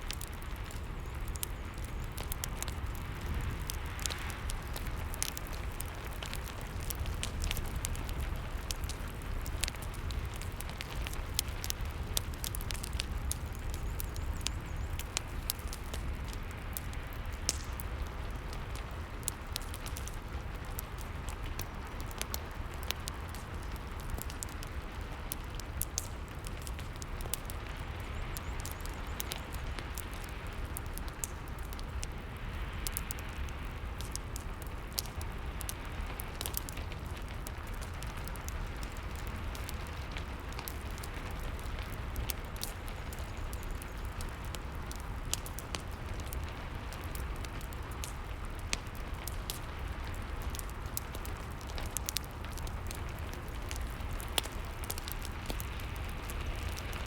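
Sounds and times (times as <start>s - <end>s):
fireplace crackling: 0.0s - 57.0s
rain falling: 0.0s - 57.0s.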